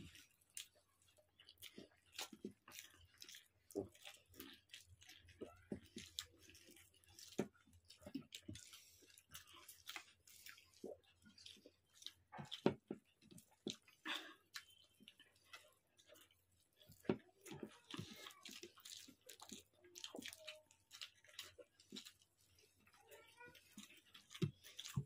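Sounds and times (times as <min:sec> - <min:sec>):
fingers squishing food on plates: 0:00.0 - 0:25.0
people chewing and smacking: 0:00.0 - 0:25.0.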